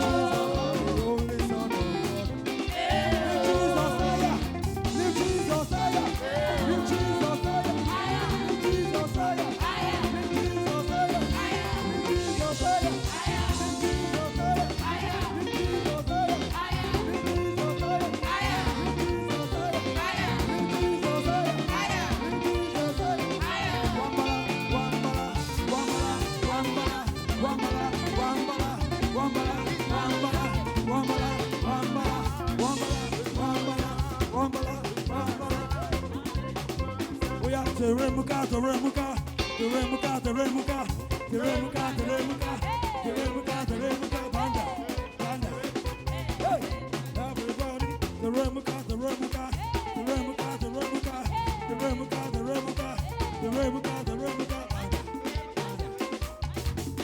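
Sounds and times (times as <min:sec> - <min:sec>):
live band playing gospel groove: 0:00.0 - 0:57.0
person singing: 0:00.0 - 0:57.0.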